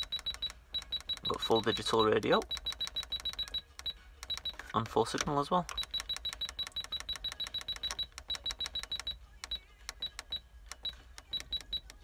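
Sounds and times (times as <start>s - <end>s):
car radio key beeps: 0.0s - 12.0s.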